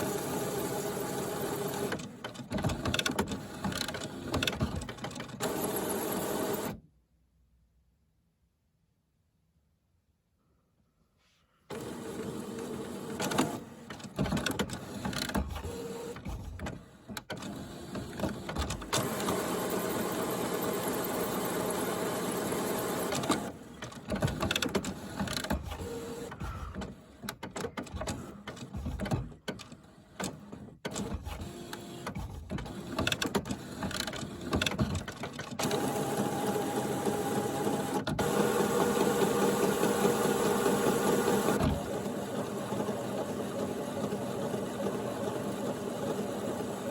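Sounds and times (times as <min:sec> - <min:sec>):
printer motor whirring: 0:00.0 - 0:06.8, 0:11.7 - 0:27.3, 0:30.2 - 0:46.9.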